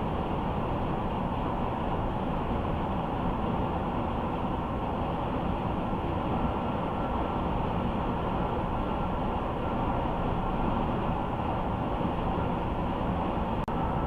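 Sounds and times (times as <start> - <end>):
car road and tyre noise: 0.0 - 14.0
faint steady whine: 0.0 - 14.0.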